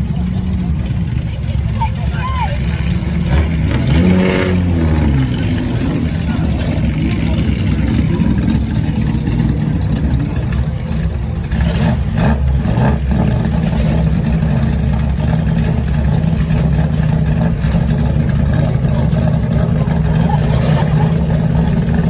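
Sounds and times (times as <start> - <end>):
racing car engines rumbling: 0.0 - 22.0.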